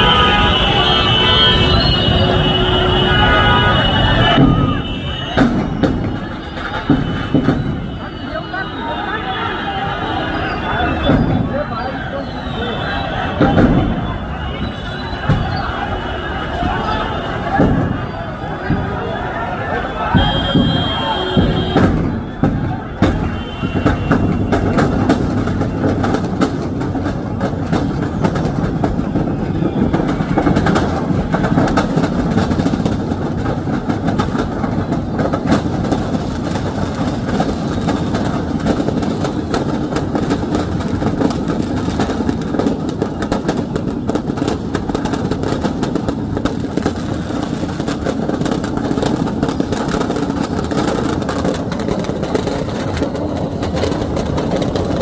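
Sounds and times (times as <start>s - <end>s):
traffic engines running: 0.0s - 55.0s.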